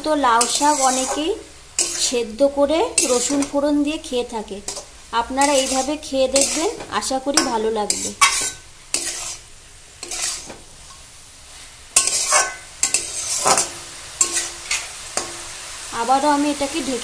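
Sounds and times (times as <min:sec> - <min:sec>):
soft sizzle of greens: 0:00.0 - 0:17.0
spatula scraping metal wok: 0:00.2 - 0:15.5.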